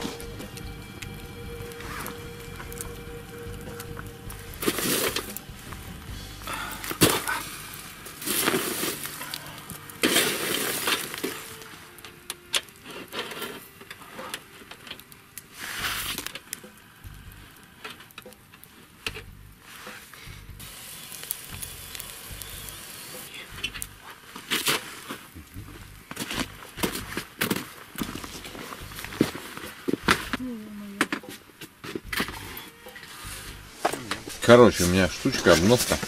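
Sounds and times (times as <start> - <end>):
metal scoop scraping charcoal: 0.0 - 16.7, 17.7 - 30.5, 31.2 - 36.0
meat sizzling: 0.0 - 30.3.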